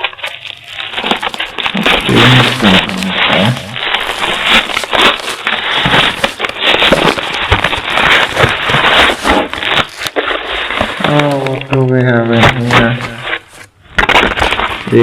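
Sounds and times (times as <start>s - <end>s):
distorted packaging rustling: 0.0s - 15.0s
package being torn open: 0.0s - 15.0s.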